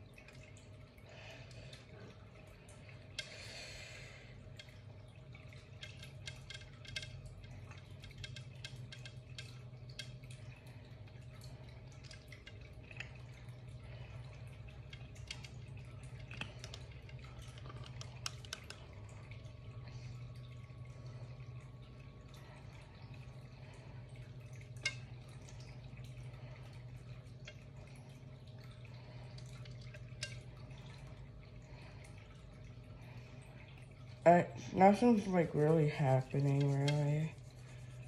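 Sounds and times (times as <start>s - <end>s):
liquid drips: 0.0s - 38.0s
steady low hum: 0.0s - 38.0s.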